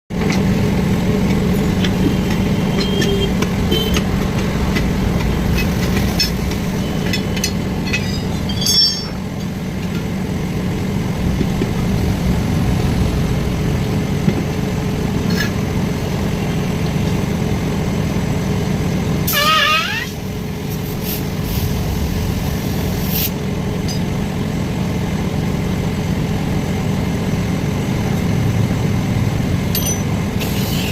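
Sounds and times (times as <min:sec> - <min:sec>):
engine droning: 0:00.1 - 0:30.9.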